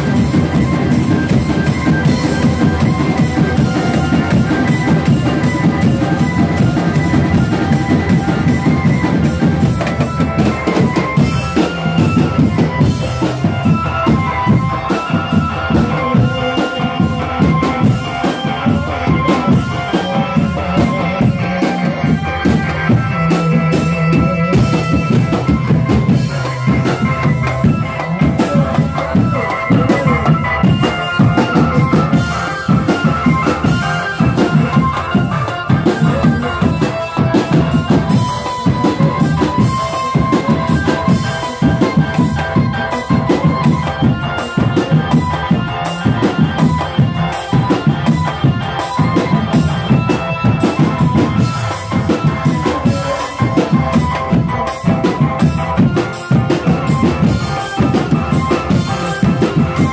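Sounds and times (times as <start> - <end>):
drum band beating: 0.0 - 59.9
keyboard melody: 0.0 - 59.9.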